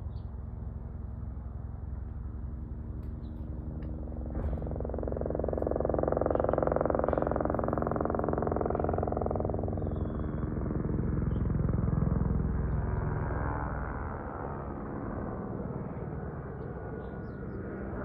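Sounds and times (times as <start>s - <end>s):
helicopter flying by: 0.0s - 18.0s.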